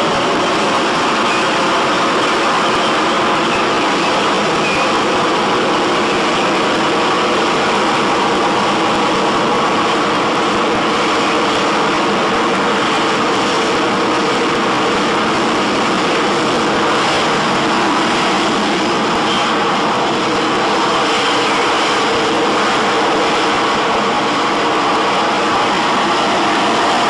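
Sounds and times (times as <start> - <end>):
jet engine roaring: 0.0 - 27.0.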